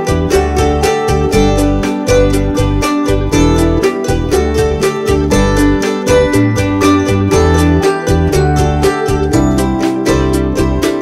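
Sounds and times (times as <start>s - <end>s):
bass line: 0.0s - 11.0s
upbeat acoustic guitar music: 0.0s - 11.0s.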